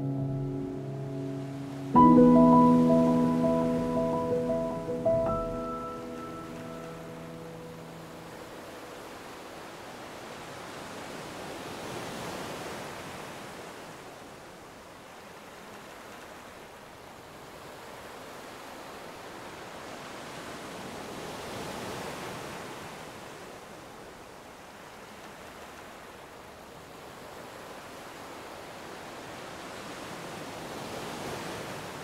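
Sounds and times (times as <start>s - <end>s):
sea waves washing ashore: 0.0s - 32.0s.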